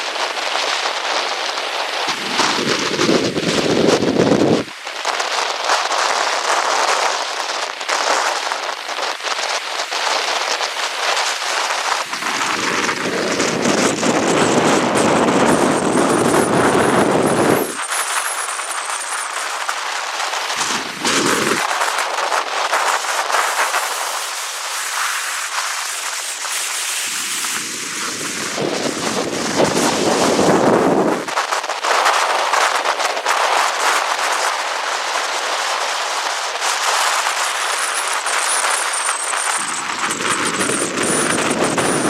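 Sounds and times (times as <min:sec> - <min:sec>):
heavy rain patter: 0:00.0 - 0:42.0
strong wind: 0:00.0 - 0:42.0
wind buffeting on microphone: 0:00.0 - 0:42.0.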